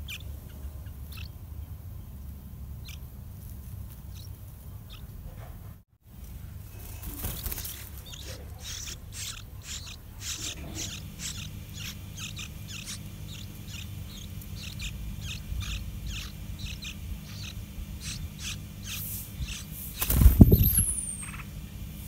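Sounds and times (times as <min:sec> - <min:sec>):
nestlings begging calls: 0:00.0 - 0:05.2, 0:06.8 - 0:22.0
faint steady hum: 0:00.0 - 0:22.0.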